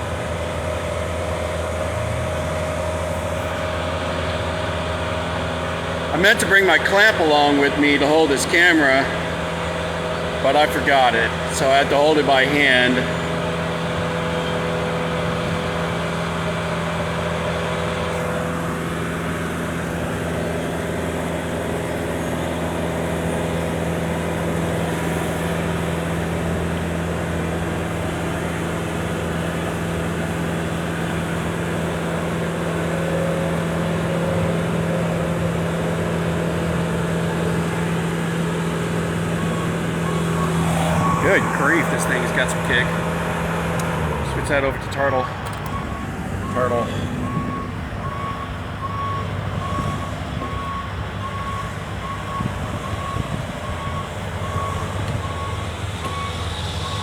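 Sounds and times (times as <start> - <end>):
lift motor running: 0.0 - 57.0.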